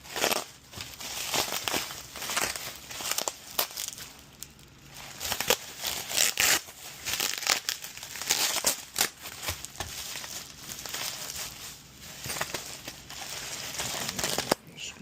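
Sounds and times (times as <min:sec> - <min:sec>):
packaging crinkling: 0:00.0 - 0:14.6.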